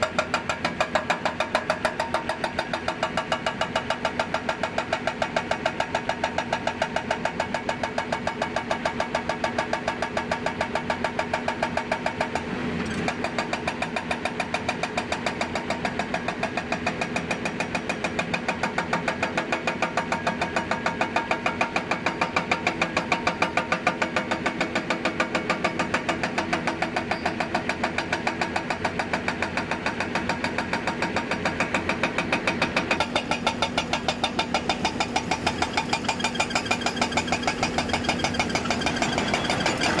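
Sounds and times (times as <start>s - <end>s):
excavator diesel engine running: 0.0s - 40.0s
hydraulic breaker hammering rock: 0.0s - 40.0s.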